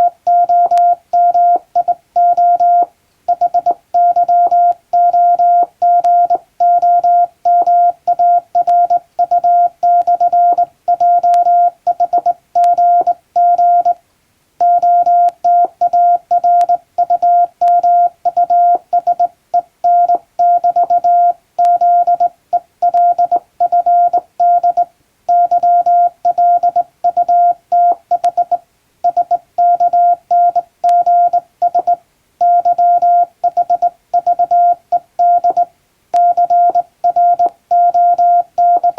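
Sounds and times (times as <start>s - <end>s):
morse code beeps: 0.0s - 14.0s, 14.6s - 38.9s.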